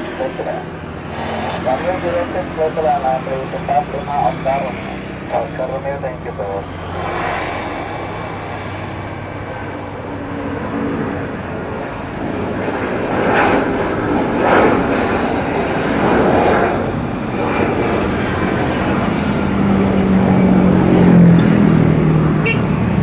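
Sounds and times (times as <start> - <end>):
jet airliner taking off: 0.0 - 23.0.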